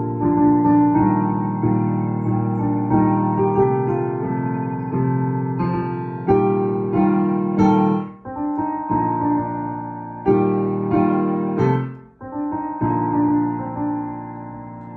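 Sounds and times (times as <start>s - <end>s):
digital piano chords: 0.0s - 14.9s.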